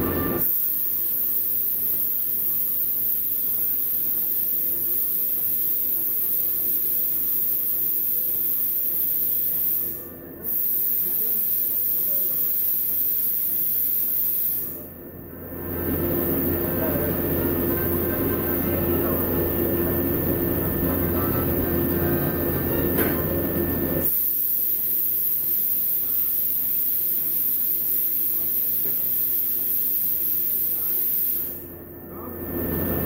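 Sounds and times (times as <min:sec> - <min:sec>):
compressed air hissing: 0:00.0 - 0:14.9, 0:15.6 - 0:31.6.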